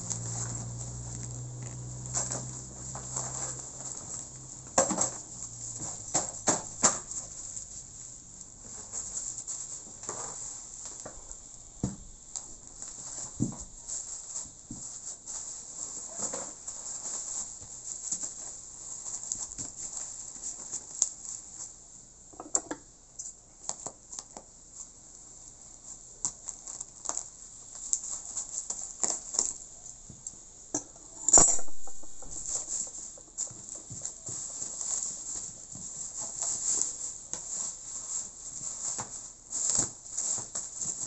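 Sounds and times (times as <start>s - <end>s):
plastic bag and bubble wrap crinkling: 0.0s - 21.9s, 23.6s - 30.2s, 31.5s - 41.0s.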